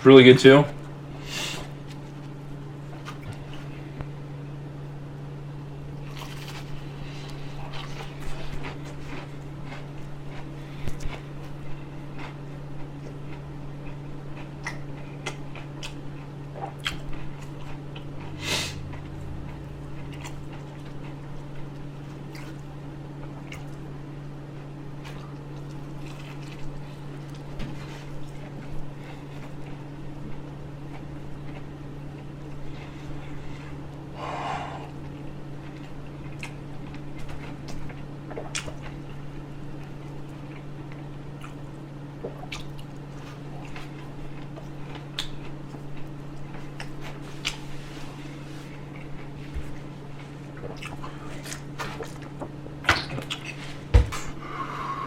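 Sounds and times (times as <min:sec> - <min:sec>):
steady low hum: 0:00.0 - 0:55.0
person chewing food: 0:01.6 - 0:04.2, 0:05.1 - 0:55.0.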